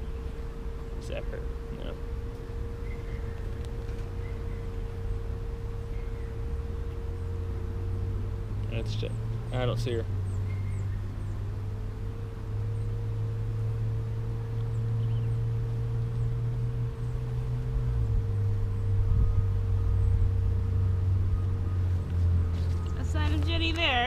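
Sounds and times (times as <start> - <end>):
honeybee colony humming: 0.0 - 24.0.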